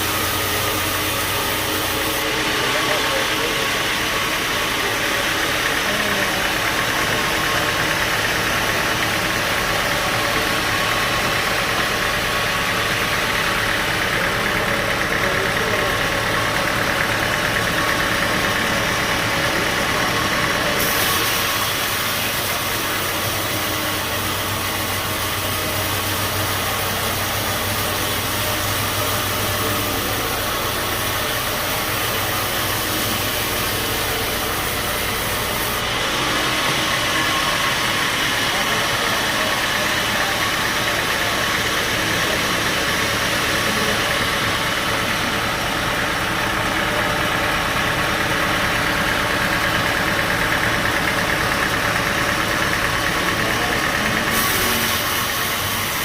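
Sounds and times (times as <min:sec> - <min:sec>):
bandsaw drone with hiss: 0:00.0 - 0:56.0.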